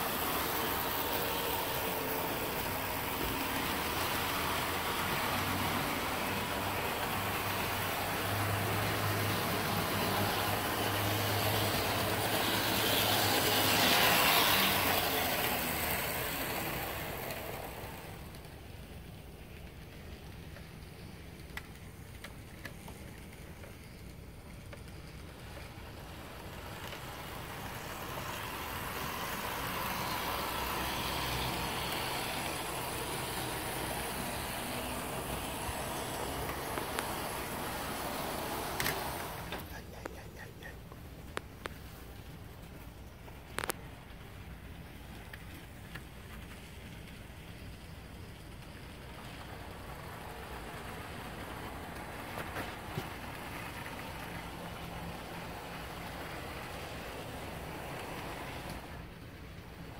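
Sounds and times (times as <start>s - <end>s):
model train motor whir: 0.0s - 39.8s, 42.2s - 59.9s.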